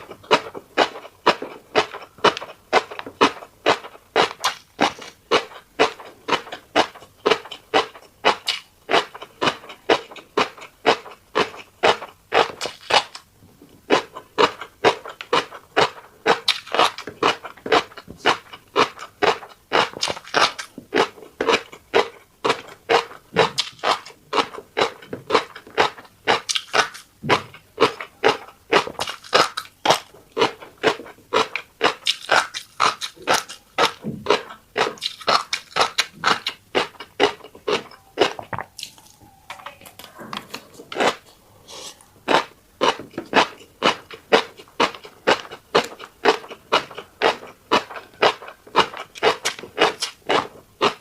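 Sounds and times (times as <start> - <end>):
wet chewing: 0.0 - 13.2, 13.9 - 51.0.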